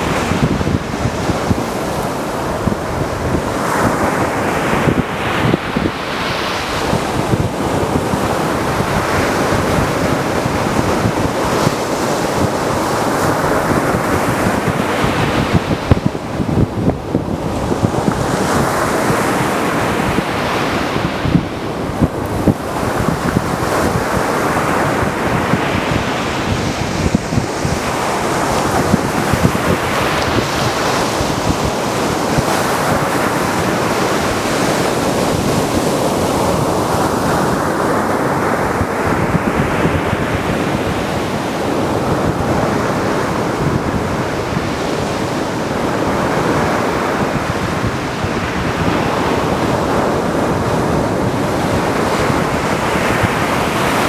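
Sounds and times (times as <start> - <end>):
waves washing onto a beach: 0.0 - 54.0.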